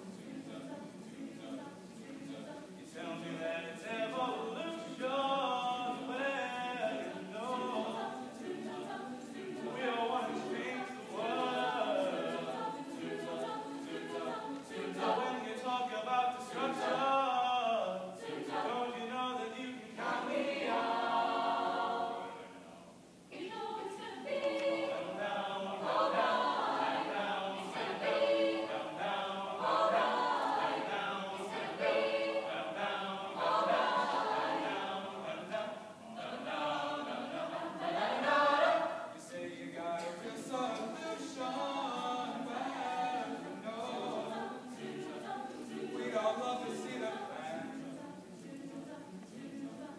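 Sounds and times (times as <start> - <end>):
choir singing a cappella: 0.0 - 49.9.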